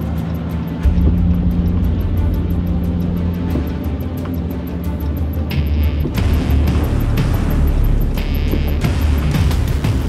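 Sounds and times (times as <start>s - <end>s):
low steady drone: 0.0s - 10.0s.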